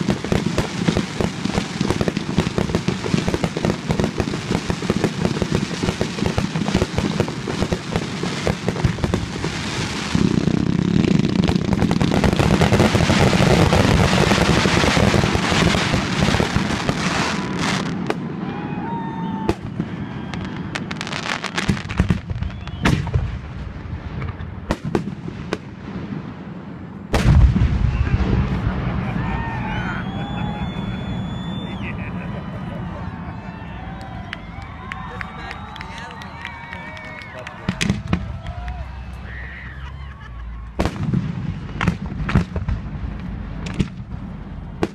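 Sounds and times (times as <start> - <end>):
fireworks bangs and crackle: 0.0 - 44.9.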